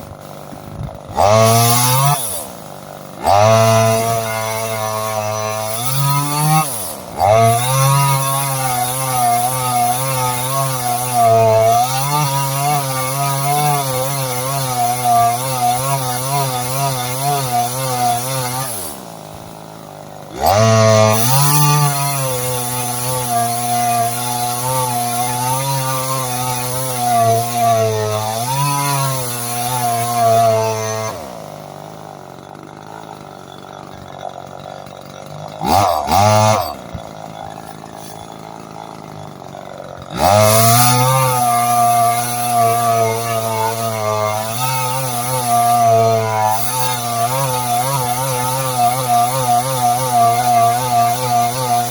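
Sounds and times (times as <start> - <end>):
chainsaw engine revving: 0.0 - 51.9.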